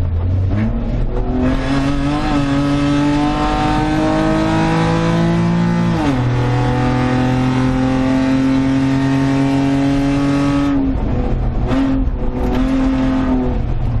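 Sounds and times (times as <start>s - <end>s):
truck engine racing: 0.0s - 14.0s.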